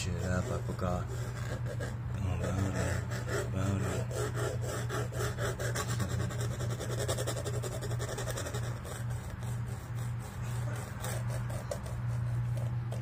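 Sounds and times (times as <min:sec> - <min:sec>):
pencil scratching on paper: 0:00.0 - 0:13.0
steady low hum: 0:00.0 - 0:13.0.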